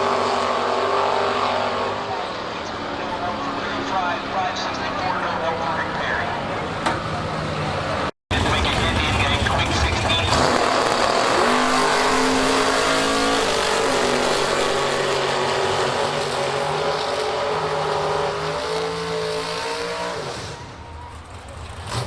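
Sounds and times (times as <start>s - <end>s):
drag racing car engine: 0.0s - 22.0s.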